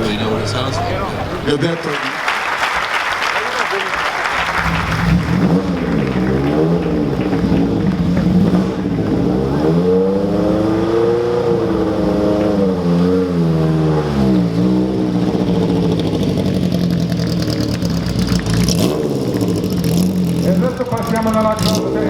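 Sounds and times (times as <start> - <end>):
car engine revving: 0.0 - 1.9, 4.1 - 22.0.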